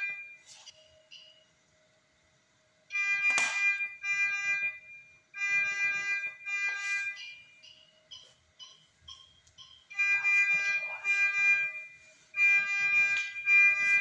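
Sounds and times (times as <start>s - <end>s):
medical alarm beeping: 0.0s - 1.7s, 2.9s - 14.0s.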